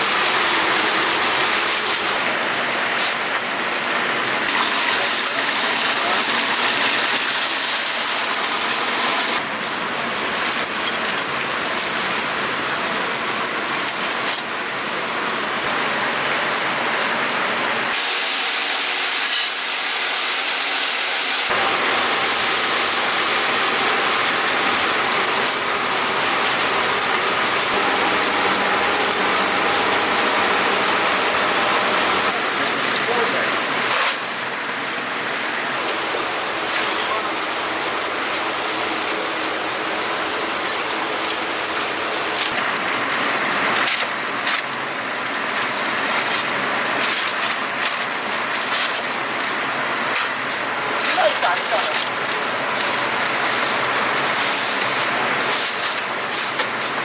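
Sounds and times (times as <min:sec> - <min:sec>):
hot oil sizzling and crackling: 0:00.0 - 0:57.0.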